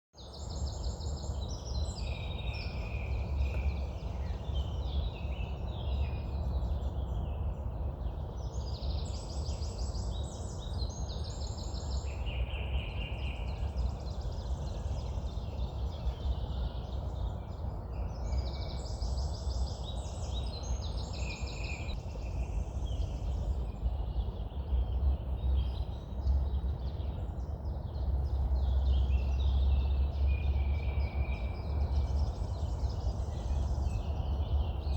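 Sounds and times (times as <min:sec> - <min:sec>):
other birds singing: 0:00.2 - 0:34.9.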